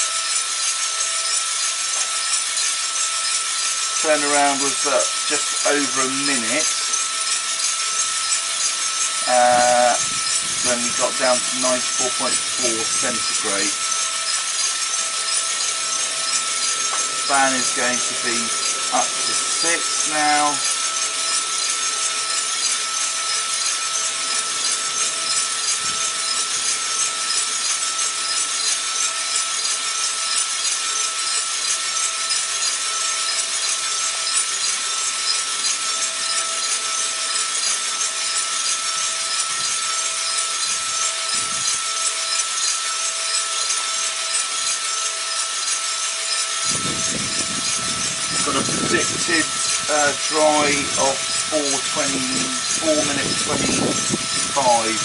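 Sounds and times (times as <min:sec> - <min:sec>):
exhaust fan and gas burner rush: 0:00.0 - 0:55.0
faint high whine: 0:01.0 - 0:55.0.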